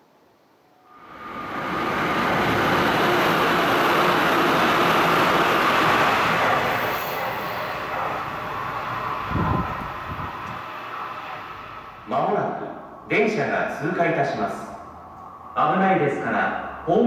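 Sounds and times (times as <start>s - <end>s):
electric train passing: 0.5s - 17.0s.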